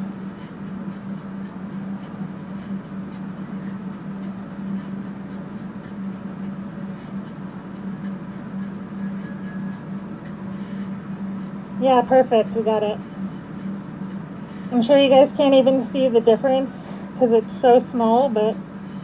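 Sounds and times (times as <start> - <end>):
electric fans humming: 0.0 - 19.0.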